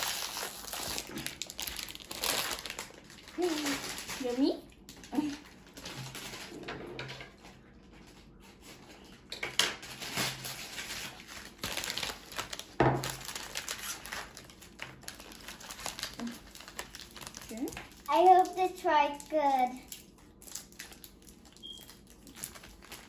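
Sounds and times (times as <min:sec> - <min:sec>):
candy wrappers crinkling: 0:00.0 - 0:06.6, 0:09.8 - 0:23.0.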